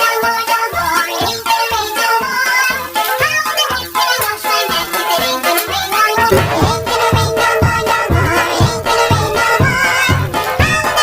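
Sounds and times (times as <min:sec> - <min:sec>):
distorted children's song music: 0:00.0 - 0:11.0.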